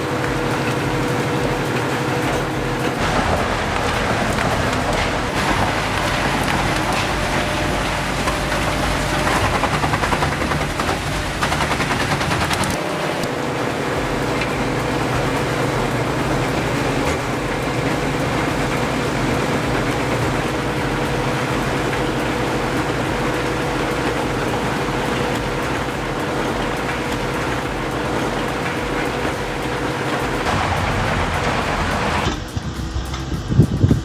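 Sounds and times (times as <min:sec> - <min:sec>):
heavy machinery engine running: 0:00.0 - 0:33.4
constant whine: 0:00.0 - 0:34.0.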